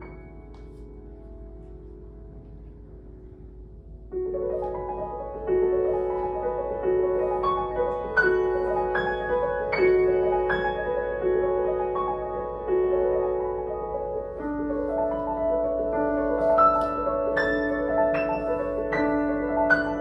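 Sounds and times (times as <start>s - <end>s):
solo piano playing: 0.0s - 20.0s.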